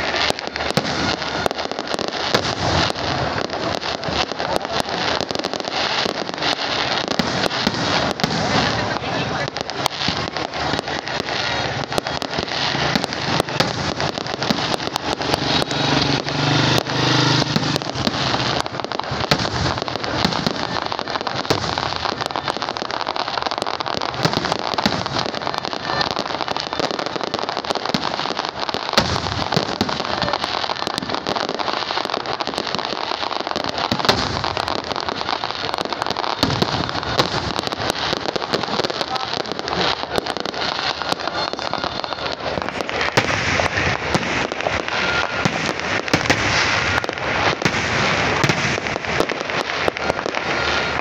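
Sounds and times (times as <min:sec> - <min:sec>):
fireworks bursting: 0:00.0 - 0:51.0.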